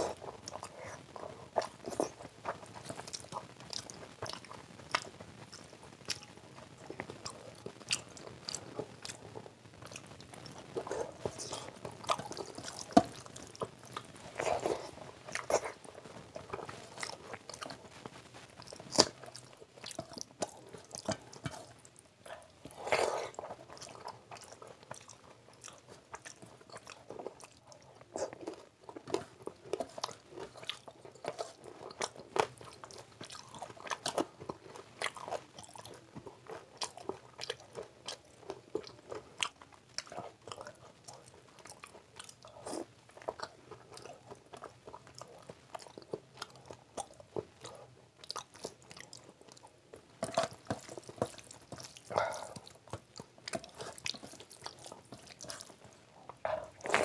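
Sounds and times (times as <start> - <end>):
man chewing and eating: 0.0 - 57.0.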